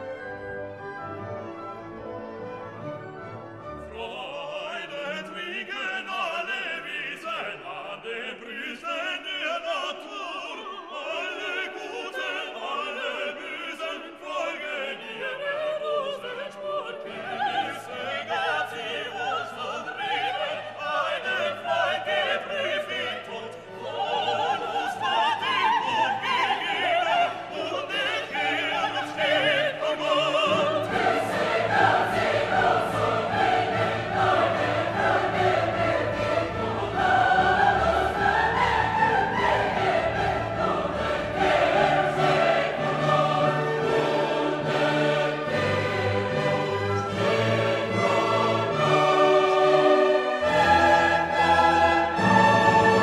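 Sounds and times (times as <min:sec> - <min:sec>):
orchestral music: 0:00.0 - 0:53.0
operatic singing: 0:03.8 - 0:53.0.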